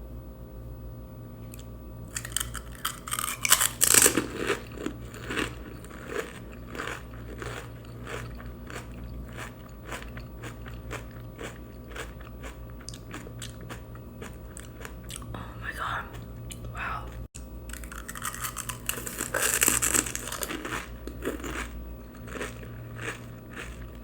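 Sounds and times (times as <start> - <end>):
person crunching and chewing food: 1.5 - 24.0.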